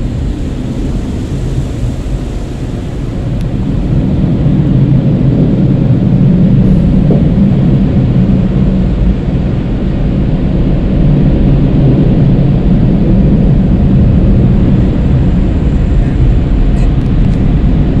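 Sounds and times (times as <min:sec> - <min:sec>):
car wash machinery rumbling: 0:00.0 - 0:18.0.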